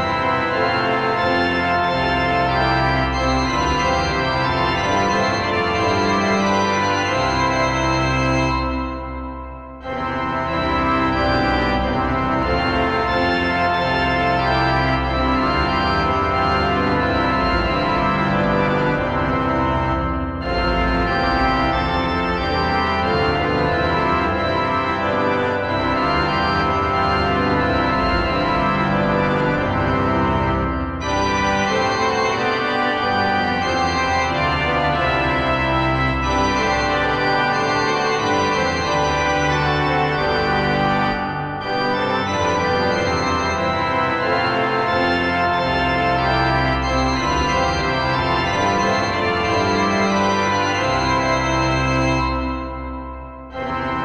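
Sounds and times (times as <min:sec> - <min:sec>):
organ playing held chords: 0:00.0 - 0:54.0.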